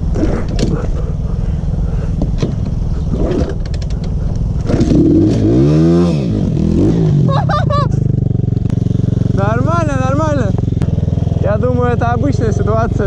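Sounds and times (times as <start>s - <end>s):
motorbike engine idling and revving: 0.0s - 13.0s.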